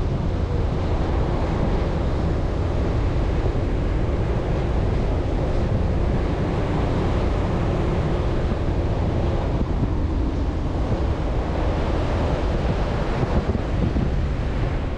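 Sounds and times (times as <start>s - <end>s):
pickup truck driving on sand: 0.0s - 14.9s
wind on microphone: 0.0s - 14.9s.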